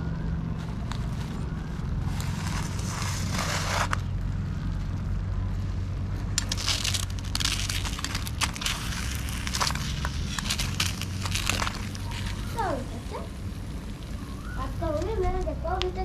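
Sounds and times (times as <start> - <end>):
low fire rumble: 0.0 - 16.0
burning matches crackling: 0.6 - 4.1, 6.4 - 16.0.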